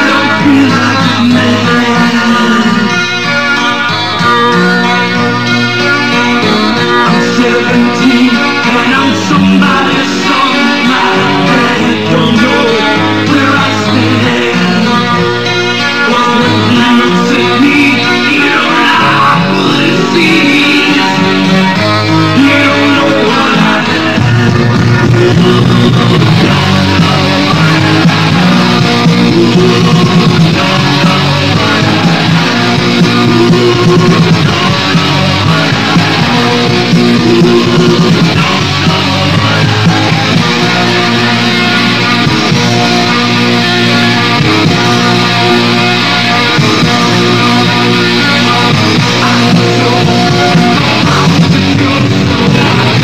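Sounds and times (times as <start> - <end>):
electric guitar: 0.0 - 53.0
rock band playing: 0.0 - 53.0.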